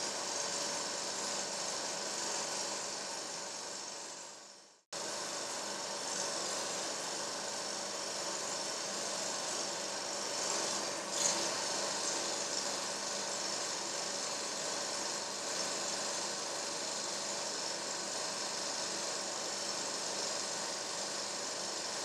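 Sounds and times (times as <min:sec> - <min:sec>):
hiss: 0:00.0 - 0:22.0
mechanical whirring hum: 0:00.0 - 0:22.0.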